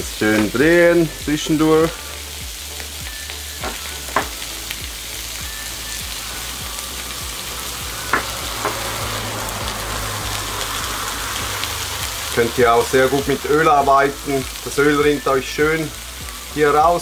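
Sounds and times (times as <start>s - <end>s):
meat sizzling on a grill plate: 0.0s - 17.0s.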